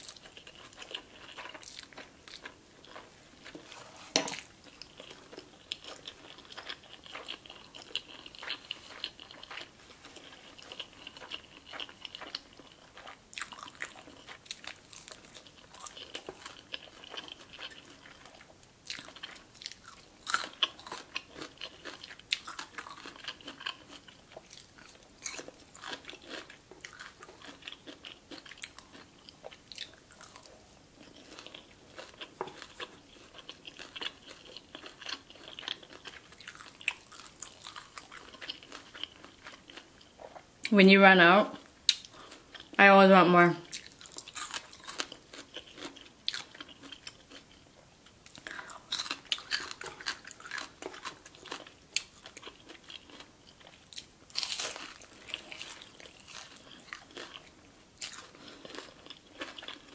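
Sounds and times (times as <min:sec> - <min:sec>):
chewing crispy fried chicken: 0:00.0 - 0:40.8, 0:41.6 - 0:42.9, 0:43.6 - 0:59.9.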